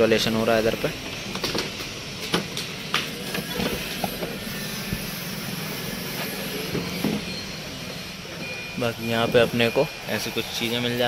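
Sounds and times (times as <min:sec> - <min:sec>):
workshop background rumble: 0:00.0 - 0:11.0.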